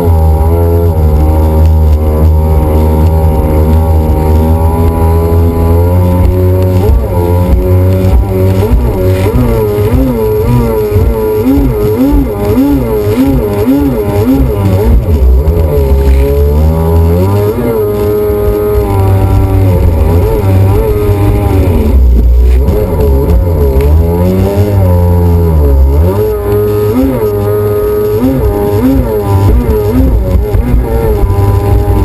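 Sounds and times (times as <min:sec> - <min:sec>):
jet ski engine running: 0:00.0 - 0:32.0.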